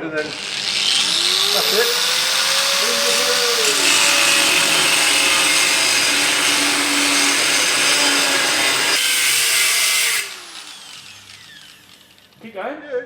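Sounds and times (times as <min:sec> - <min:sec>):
grinder disc winding down whine: 0:00.0 - 0:12.3
angle grinder cutting metal: 0:00.0 - 0:12.4.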